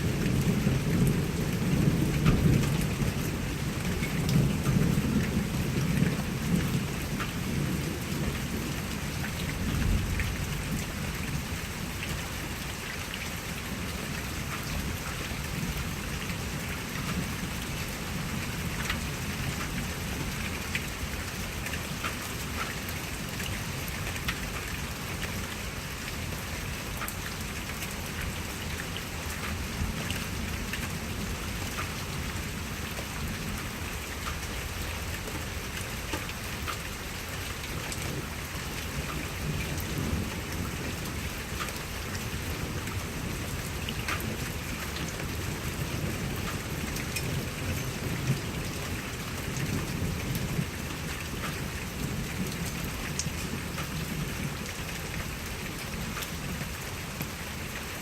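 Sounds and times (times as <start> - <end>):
raindrops ticking close by: 0.0 - 58.0
steady rain: 0.0 - 58.0.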